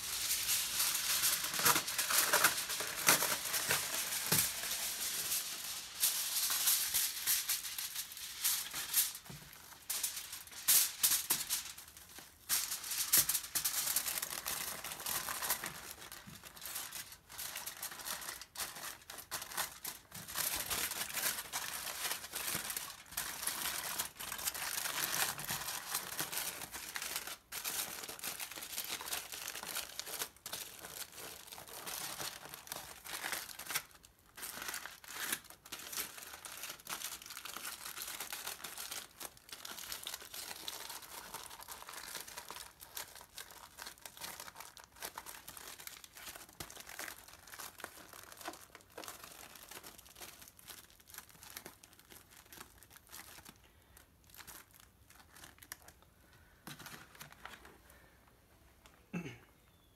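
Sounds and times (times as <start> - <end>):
aluminium foil crinkling: 0.0 - 57.8.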